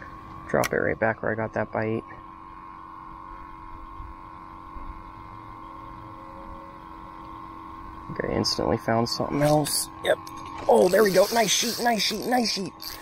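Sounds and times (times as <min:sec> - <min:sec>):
electric motor humming and whining: 0:00.0 - 0:13.0.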